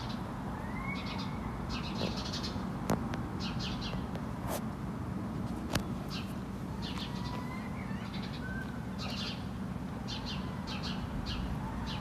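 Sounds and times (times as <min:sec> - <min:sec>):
songbirds alarm calls: 0:00.0 - 0:04.2, 0:05.8 - 0:12.0.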